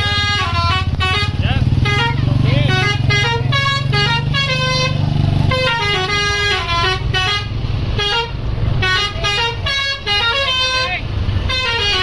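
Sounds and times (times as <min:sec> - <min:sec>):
bus engine running: 0:00.0 - 0:12.0
multi-tone bus horn melody: 0:00.0 - 0:12.0.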